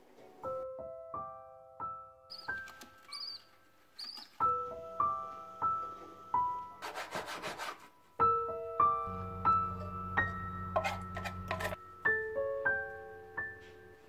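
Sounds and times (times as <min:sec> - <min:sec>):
slow piano melody: 0:00.0 - 0:06.9, 0:07.8 - 0:14.0.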